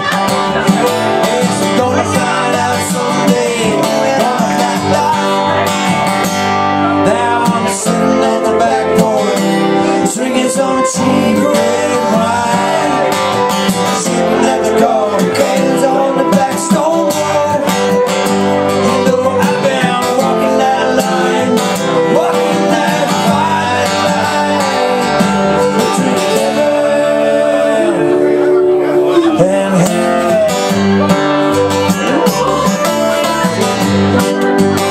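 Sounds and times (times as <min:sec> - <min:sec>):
bowed fiddle melody: 0:00.0 - 0:34.9
strummed acoustic guitars: 0:00.0 - 0:34.9.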